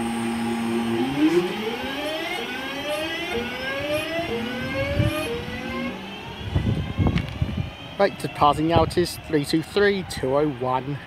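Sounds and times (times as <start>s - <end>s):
electric train motors whining: 0.0s - 11.0s.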